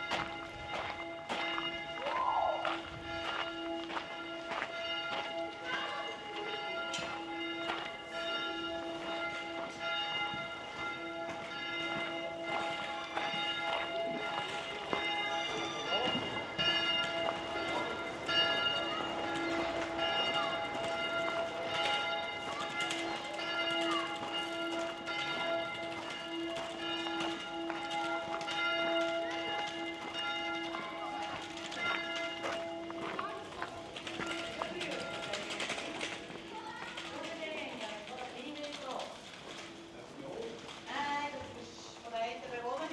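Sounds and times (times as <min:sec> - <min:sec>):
church bells ringing: 0:00.0 - 0:42.9
street noise clicks: 0:00.0 - 0:42.9.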